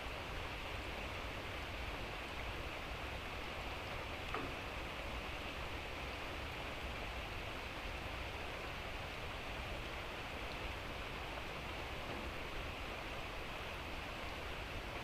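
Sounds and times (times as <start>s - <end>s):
light rain hissing: 0.0s - 15.0s.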